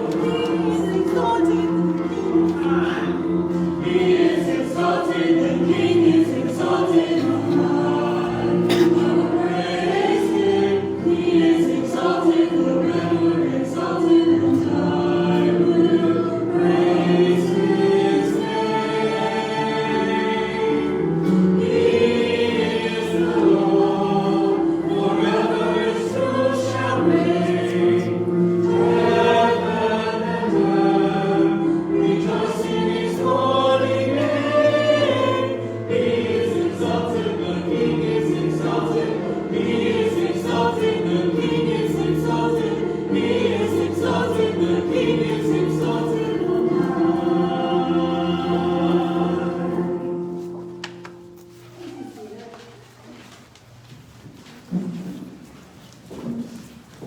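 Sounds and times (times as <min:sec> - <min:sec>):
church choir singing: 0:00.0 - 0:52.6.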